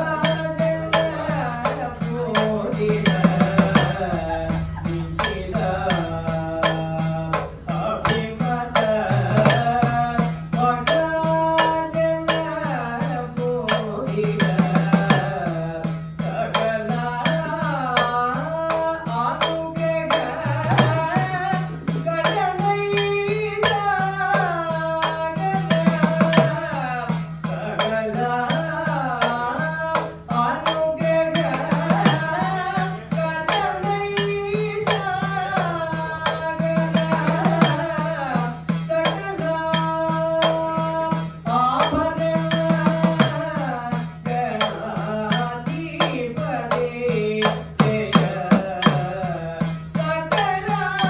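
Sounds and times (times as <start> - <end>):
hourglass drum strokes: 0.0 - 51.0
person singing devotional song: 0.0 - 51.0.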